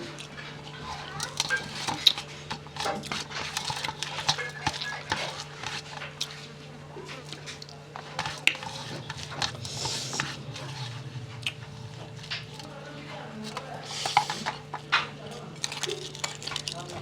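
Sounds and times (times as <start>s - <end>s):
dishes and utensils clinking: 0.0s - 17.0s
steady low hum: 0.0s - 17.0s.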